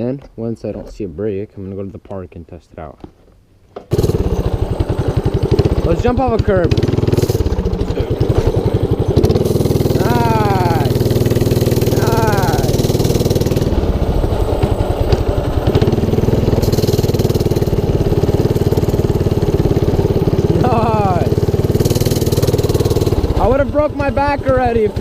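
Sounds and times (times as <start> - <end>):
engine whine: 3.9 - 25.0
mini bike engine running: 3.9 - 25.0.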